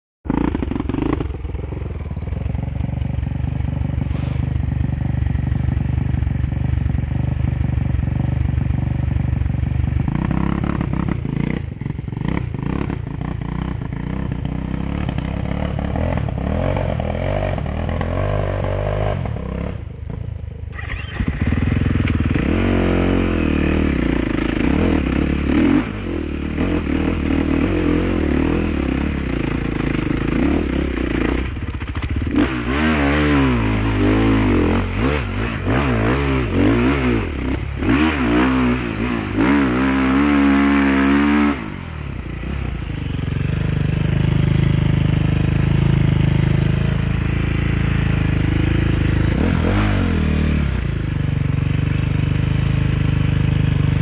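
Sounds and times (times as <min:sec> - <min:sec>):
dirt bike engine revving: 0:00.3 - 0:19.9, 0:20.7 - 0:54.0.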